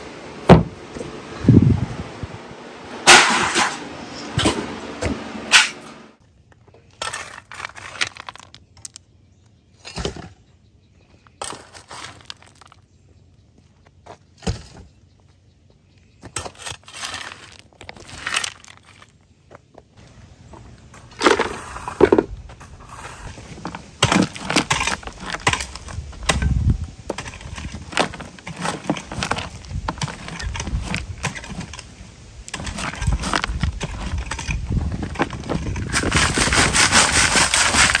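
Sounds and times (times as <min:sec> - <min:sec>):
gravel stones clinking: 0:06.2 - 0:38.0.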